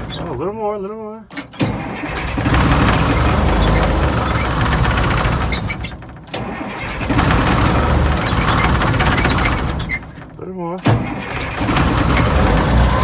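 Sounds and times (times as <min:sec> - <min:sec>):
diesel engine cranking: 0:00.0 - 0:13.0.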